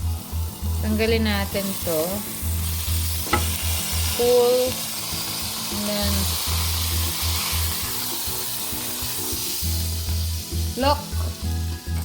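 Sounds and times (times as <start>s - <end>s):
steak sizzling on grill: 0.0s - 12.0s.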